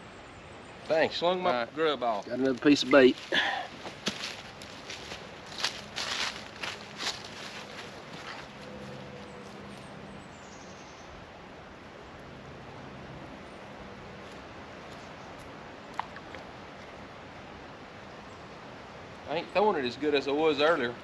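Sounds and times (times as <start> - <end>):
outdoor ambience hiss: 0.0 - 21.0.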